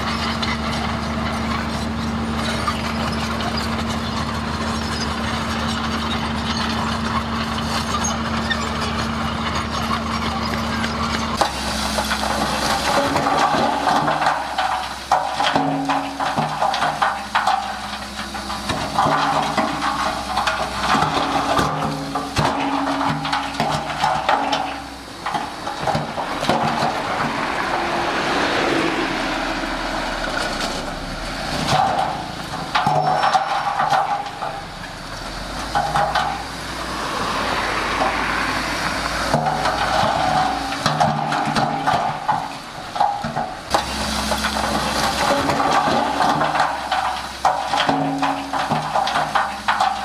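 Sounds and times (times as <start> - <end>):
diesel engines running: 0.0 - 50.0.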